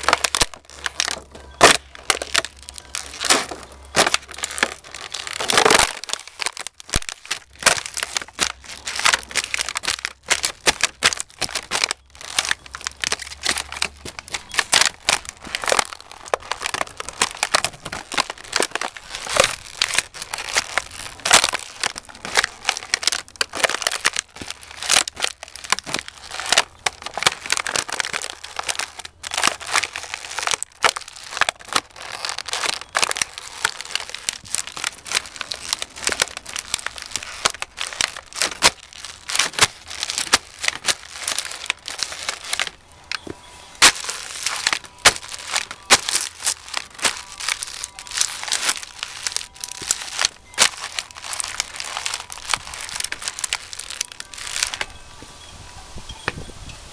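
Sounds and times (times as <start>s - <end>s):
boots crushing plastic container: 0.0s - 54.9s.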